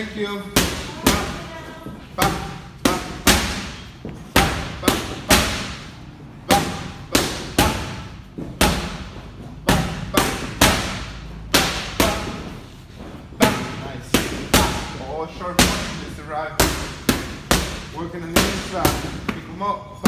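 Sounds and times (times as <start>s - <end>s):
boxing gloves smacking mitts: 2.1s - 19.6s.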